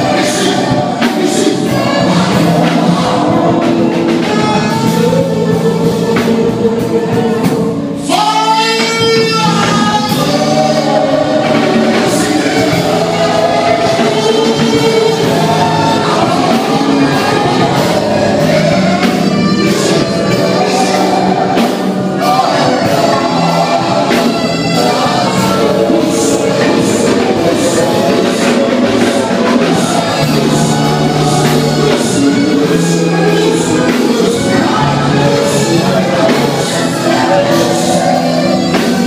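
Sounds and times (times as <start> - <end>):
congregation singing: 0.0 - 39.0.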